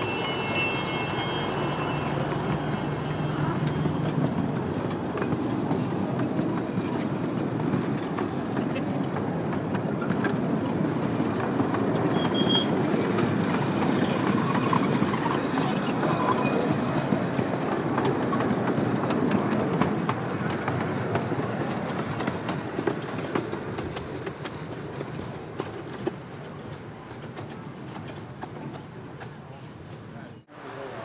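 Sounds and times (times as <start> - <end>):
miniature train wheels rumbling: 0.0 - 30.2.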